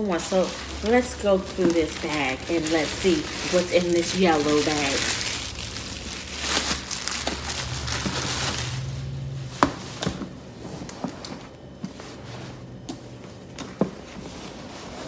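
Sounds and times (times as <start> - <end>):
handling of wrapping: 0.0 - 12.8
plastic bag rustling and crinkling: 0.0 - 12.8.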